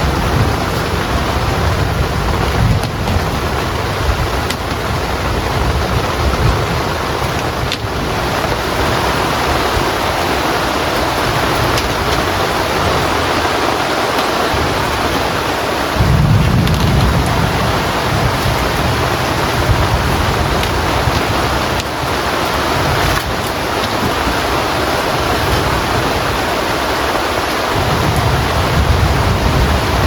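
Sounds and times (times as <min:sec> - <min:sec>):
heavy rain: 0:00.0 - 0:30.0
thunder rumbling: 0:00.0 - 0:30.0.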